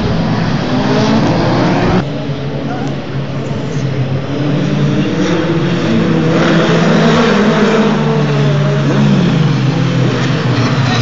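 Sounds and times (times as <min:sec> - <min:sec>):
racing cars passing at high revs: 0:00.0 - 0:11.0.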